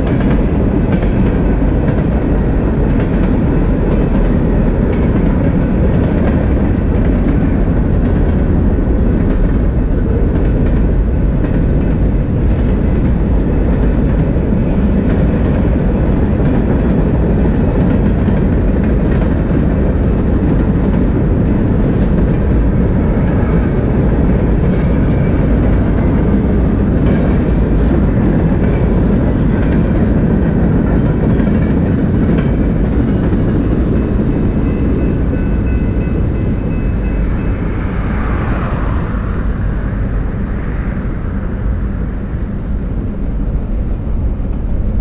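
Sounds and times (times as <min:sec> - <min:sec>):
freight train rolling past: 0:00.0 - 0:45.0.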